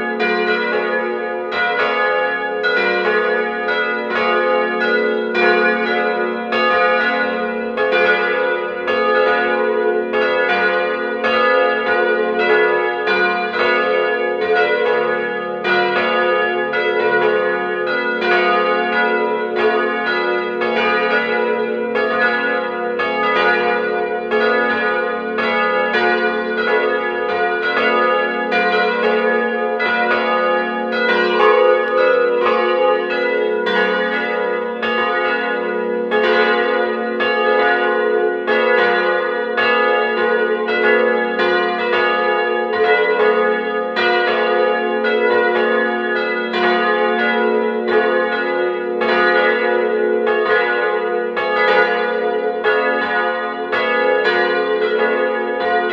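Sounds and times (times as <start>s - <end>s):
church bells ringing: 0.0s - 55.9s.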